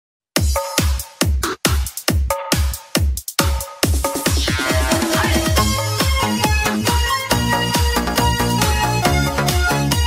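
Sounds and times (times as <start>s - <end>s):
electronic dance music: 0.4s - 10.0s.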